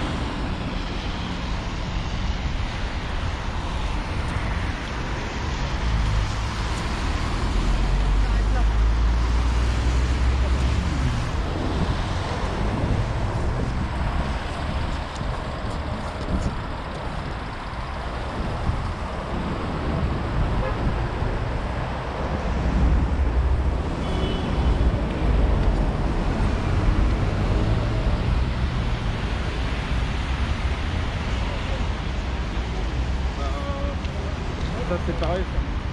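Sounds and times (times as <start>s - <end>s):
cars passing: 0.0s - 35.9s.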